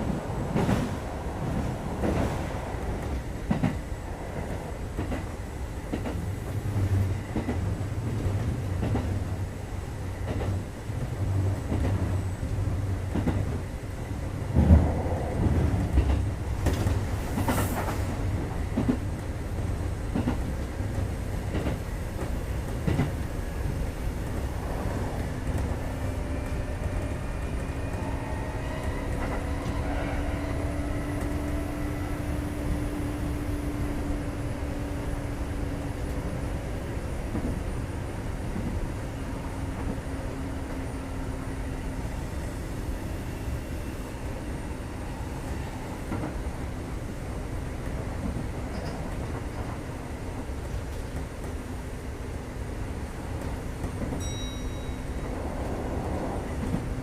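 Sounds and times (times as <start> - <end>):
train rumbling inside car: 0.0 - 57.0.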